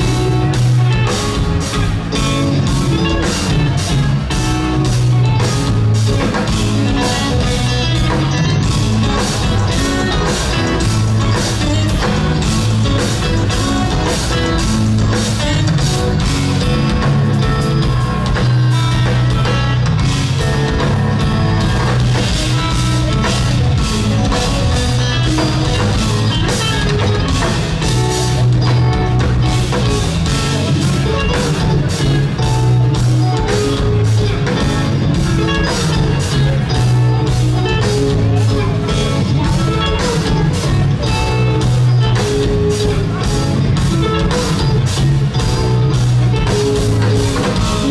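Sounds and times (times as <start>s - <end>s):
heavy electric guitars: 0.0s - 47.9s.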